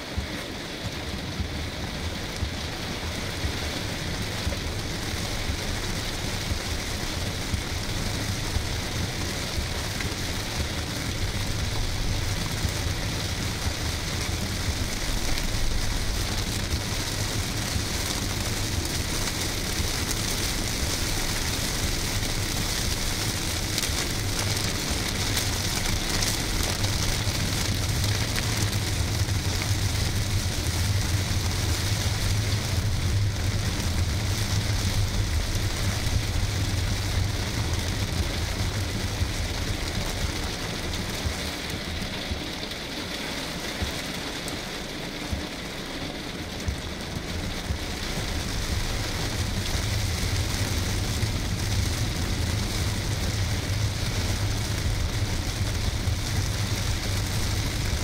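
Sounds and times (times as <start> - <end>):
car engine low rumble: 0.0 - 58.0
heavy rain on car roof: 0.0 - 58.0.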